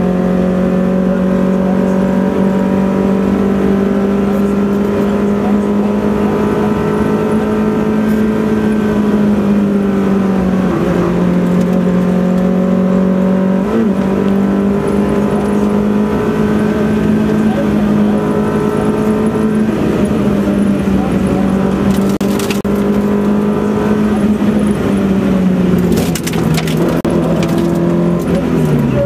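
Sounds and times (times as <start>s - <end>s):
rally car engine at high revs: 0.0s - 29.0s.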